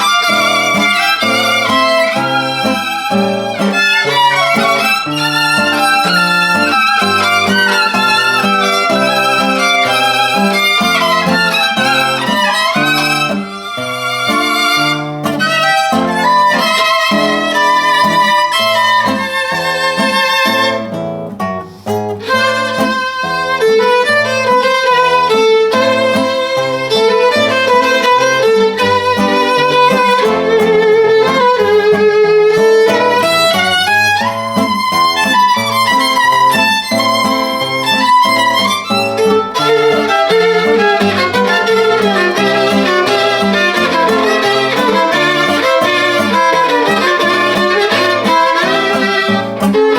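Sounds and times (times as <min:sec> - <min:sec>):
violin melody with vibrato: 0:00.0 - 0:49.9.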